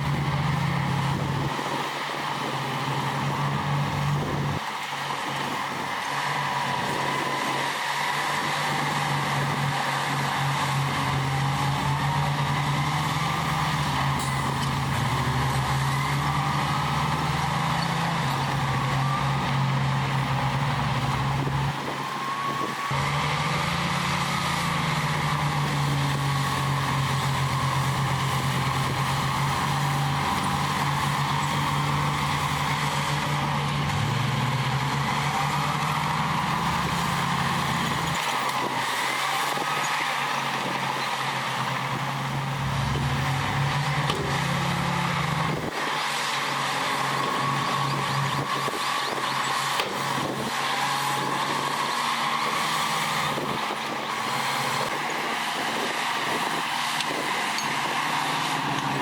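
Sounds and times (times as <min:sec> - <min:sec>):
diesel earthmoving machine running: 0:00.0 - 0:59.0.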